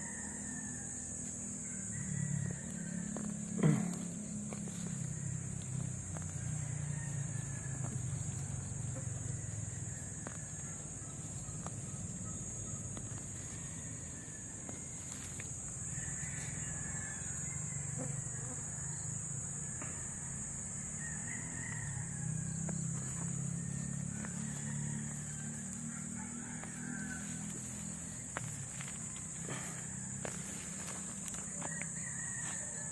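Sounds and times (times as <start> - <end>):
high-pitched insect drone: 0.0 - 32.9.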